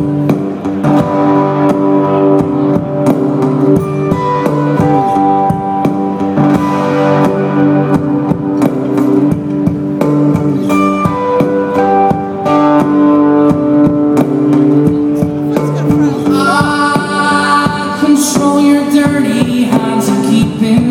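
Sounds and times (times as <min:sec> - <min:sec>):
held guitar notes: 0:00.0 - 0:20.9.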